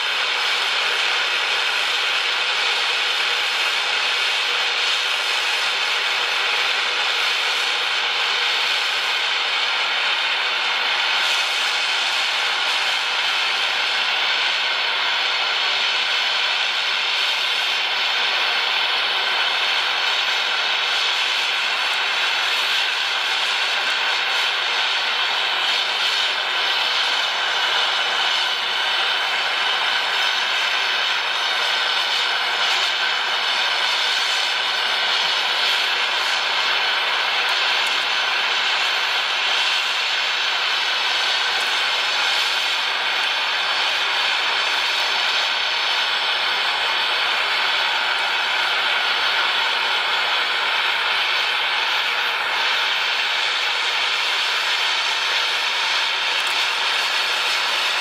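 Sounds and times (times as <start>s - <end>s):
gas torch flame hissing: 0.0s - 58.0s.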